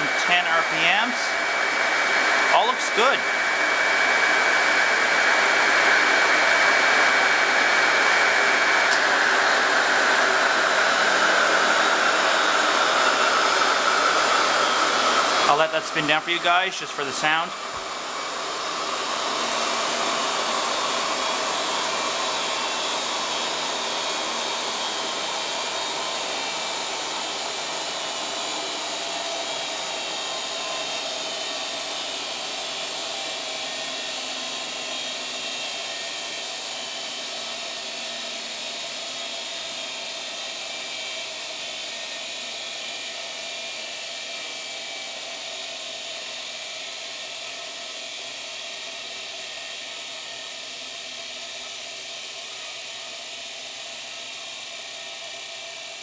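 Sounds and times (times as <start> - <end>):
fan motor whirring and whining: 0.0 - 47.3.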